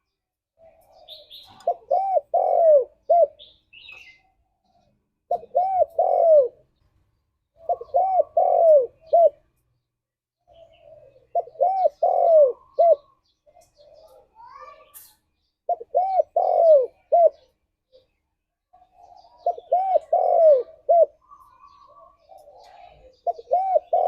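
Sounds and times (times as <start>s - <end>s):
dove cooing: 0.6s - 6.8s, 7.5s - 9.5s, 10.5s - 14.6s, 15.7s - 18.2s, 18.8s - 24.0s.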